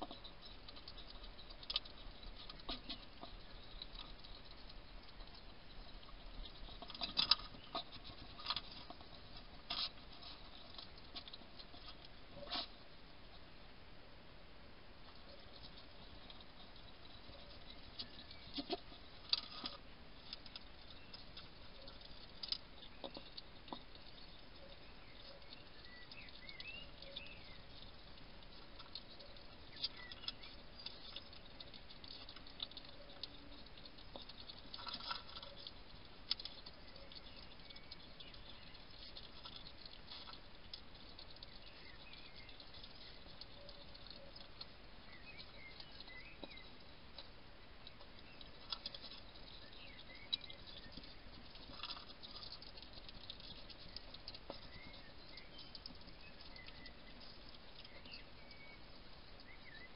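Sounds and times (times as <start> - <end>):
hedgehog crunching food: 0.0 - 13.6, 15.0 - 59.9.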